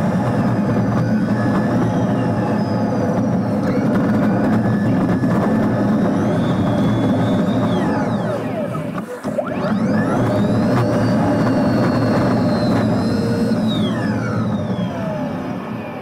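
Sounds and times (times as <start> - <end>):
bus road and drive noise: 0.0 - 16.0
faint high whining tones: 0.0 - 16.0.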